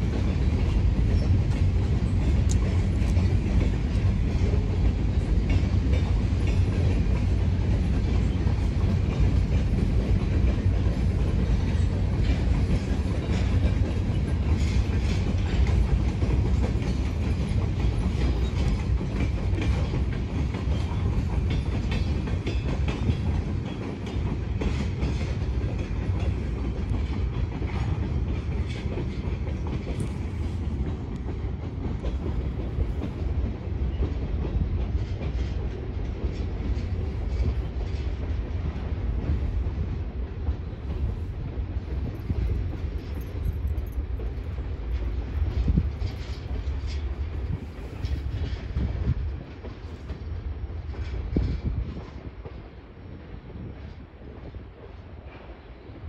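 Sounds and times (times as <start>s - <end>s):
wheels clacking over rail joints: 0.0s - 52.6s
freight train rumbling: 0.0s - 56.0s.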